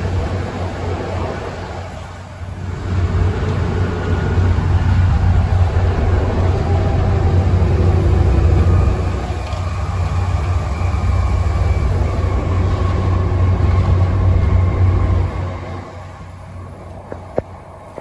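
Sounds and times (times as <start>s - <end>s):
engine whine: 0.0s - 18.0s
bus diesel engine droning: 2.5s - 18.0s.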